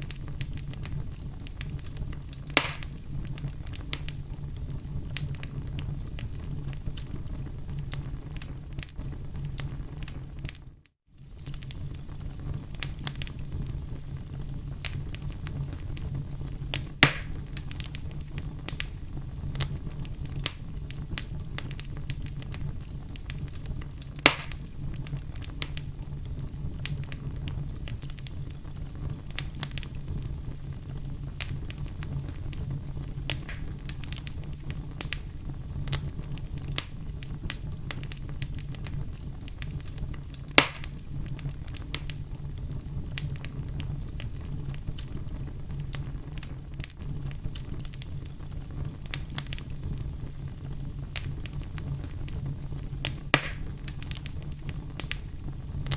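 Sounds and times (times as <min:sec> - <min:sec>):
loud fire pops: 0:00.0 - 0:55.9
wood fire crackling: 0:00.0 - 0:55.9.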